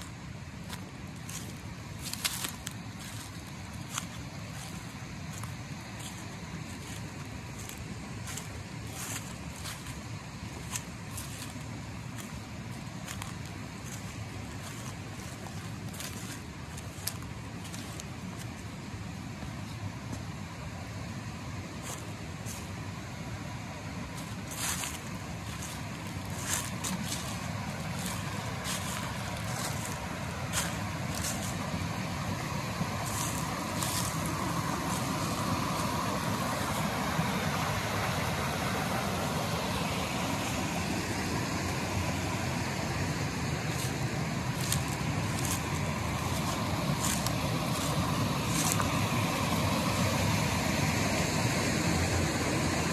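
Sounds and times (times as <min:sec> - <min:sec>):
dry leaves crackling underfoot: 0:00.0 - 0:20.8, 0:21.7 - 0:52.2
creek rushing over cascades: 0:00.0 - 0:52.9.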